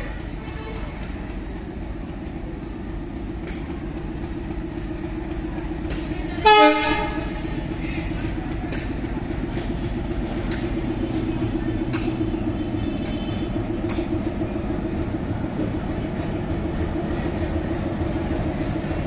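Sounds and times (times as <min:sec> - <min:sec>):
diesel locomotive engine throbbing: 0:00.0 - 0:19.0.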